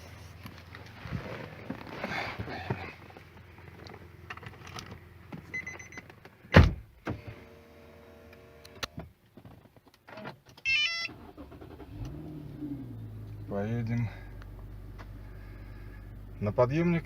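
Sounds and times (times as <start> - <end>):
car engine starting and running: 0.0 - 9.2, 11.1 - 17.0.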